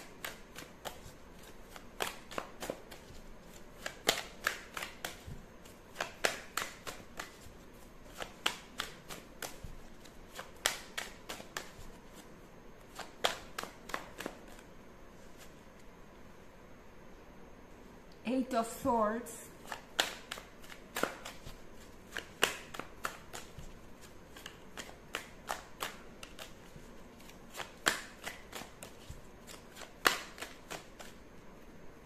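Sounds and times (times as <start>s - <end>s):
cards being shuffled: 0.0s - 15.9s, 19.6s - 31.3s.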